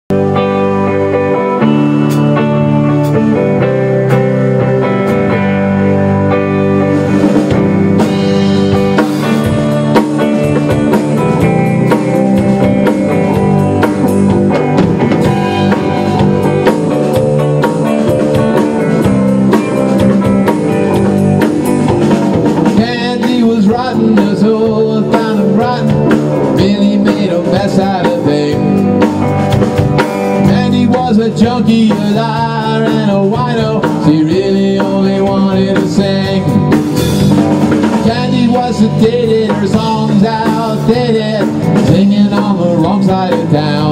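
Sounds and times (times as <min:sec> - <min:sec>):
bass guitar: 0:00.0 - 0:43.9
drum kit hits: 0:00.1 - 0:43.9
electric guitar: 0:00.1 - 0:43.9.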